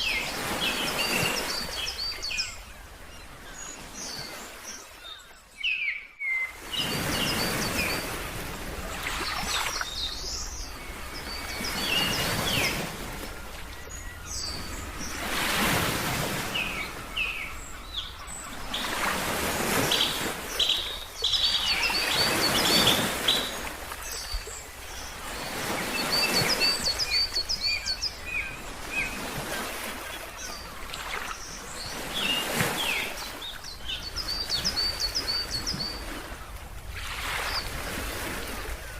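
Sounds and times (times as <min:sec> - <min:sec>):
ocean waves washing: 0:00.0 - 0:05.0, 0:06.5 - 0:38.9
birds chirping: 0:00.0 - 0:38.9.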